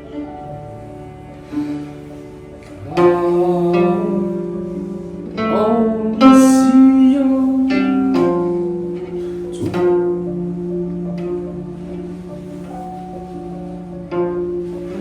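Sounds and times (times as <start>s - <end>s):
plucked zither: 0.0s - 15.0s.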